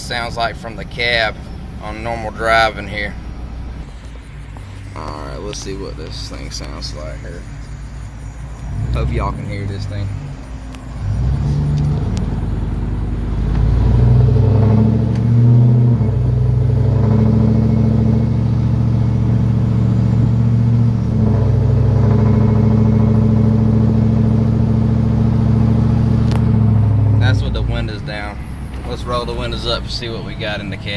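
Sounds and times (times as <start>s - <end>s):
truck engine exhaust droning: 0.0s - 30.9s.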